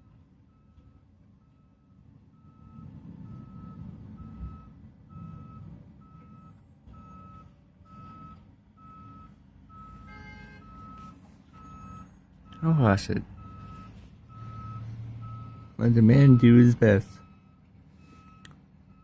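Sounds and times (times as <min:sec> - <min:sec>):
truck backup alarm beeping: 0:00.0 - 0:19.0
truck engine rumble: 0:00.0 - 0:19.0.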